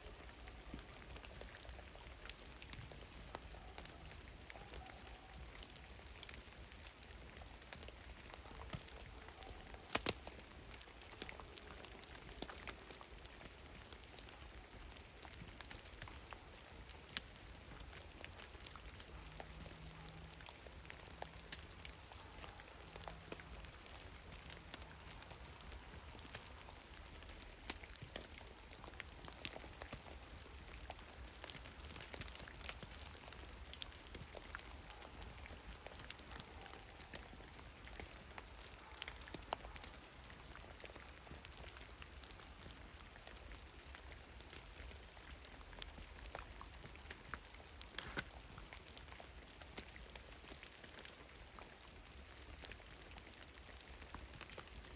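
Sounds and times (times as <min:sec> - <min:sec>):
meltwater drops falling from trees: 0:05.5 - 0:54.9.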